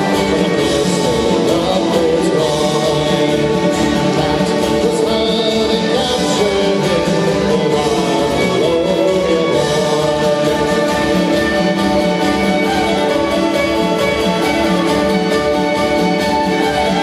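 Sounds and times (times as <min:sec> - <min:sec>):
fiddle playing a tune: 0:00.0 - 0:17.0
strummed acoustic guitar: 0:00.0 - 0:17.0.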